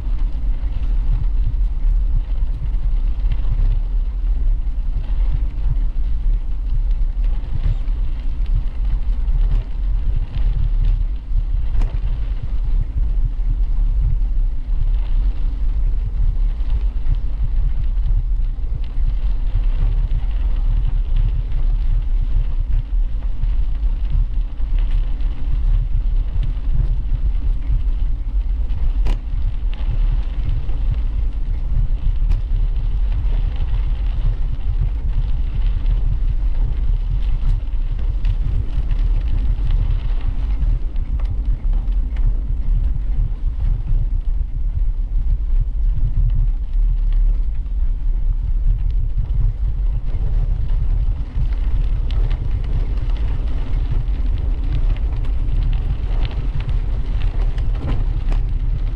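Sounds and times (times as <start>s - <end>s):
bicycle tyre noise: 0.0s - 58.9s
wind buffeting microphone: 0.0s - 58.9s.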